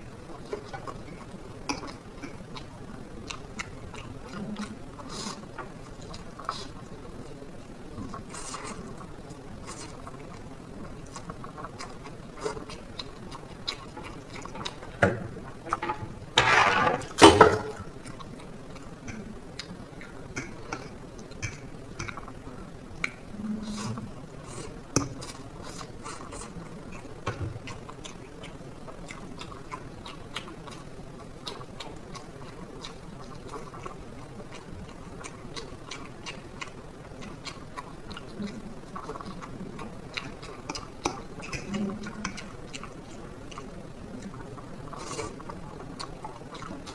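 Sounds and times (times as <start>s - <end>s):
wet chewing: 0.2s - 15.8s, 17.9s - 46.9s.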